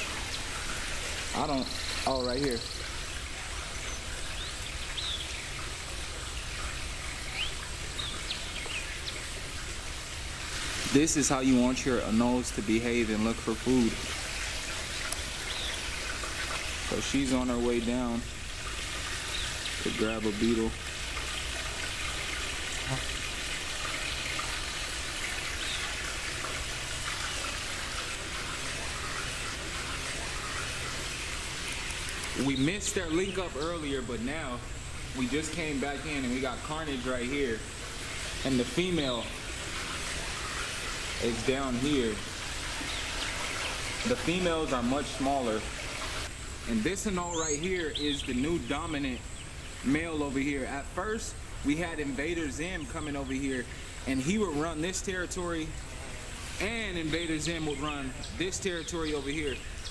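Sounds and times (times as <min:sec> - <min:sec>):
steady rushing hiss: 0:00.0 - 0:59.9.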